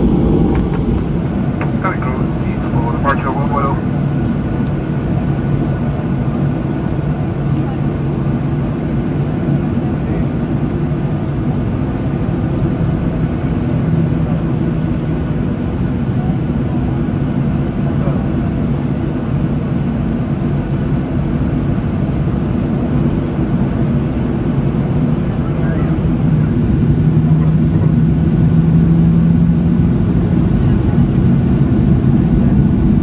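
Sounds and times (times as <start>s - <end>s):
jet engines low rumble: 0.0s - 33.0s.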